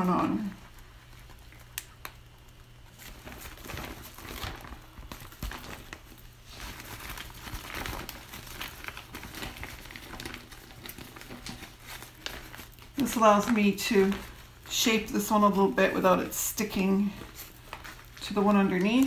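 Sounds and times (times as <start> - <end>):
plastic sheeting crinkling: 0.0 - 19.0.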